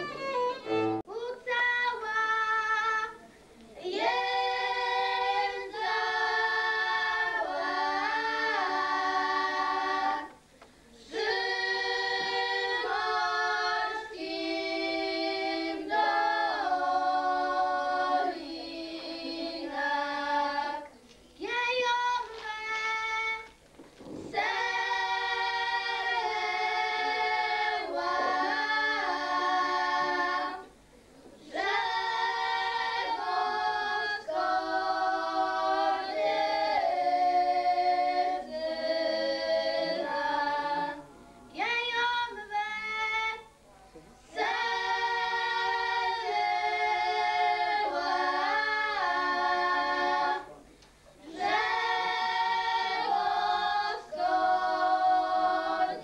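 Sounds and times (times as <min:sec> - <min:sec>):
girls singing folk song: 0:00.0 - 0:43.6, 0:44.2 - 0:56.0.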